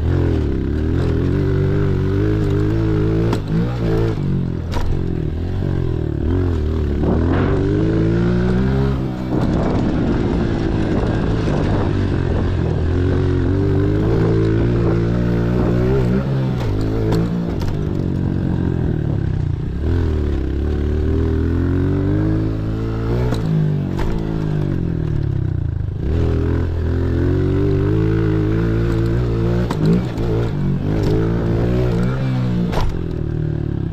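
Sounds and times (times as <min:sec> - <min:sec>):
pit bike engine revving: 0:00.0 - 0:33.9.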